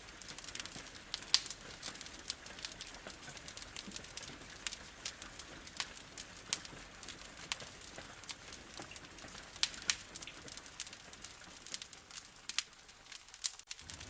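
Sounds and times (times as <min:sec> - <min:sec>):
rain on a window: 0:00.0 - 0:14.0
wood fire crackling: 0:00.0 - 0:14.0.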